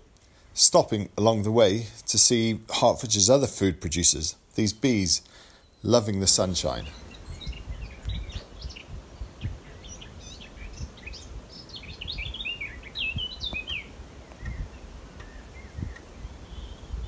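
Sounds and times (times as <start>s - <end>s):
songbirds singing and chirping: 1.2s - 17.0s.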